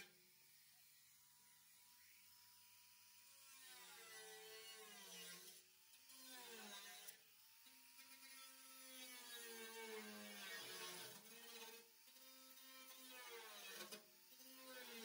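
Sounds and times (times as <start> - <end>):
pneumatic cut-off tool cutting steel: 0.0 - 15.0.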